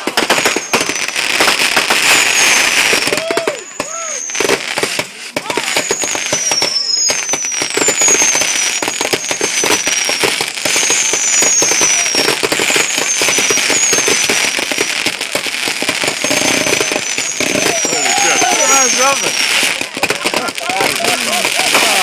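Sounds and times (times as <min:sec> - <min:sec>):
falling firework whistles: 0:00.0 - 0:22.0
fireworks crackling: 0:00.0 - 0:22.0.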